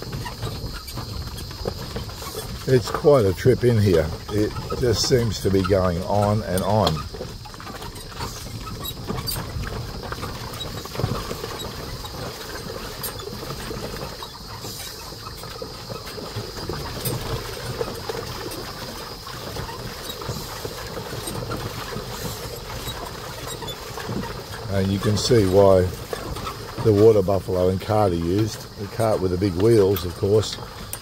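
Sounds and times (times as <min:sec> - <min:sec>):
cart rattling and creaking: 0:00.0 - 0:31.0.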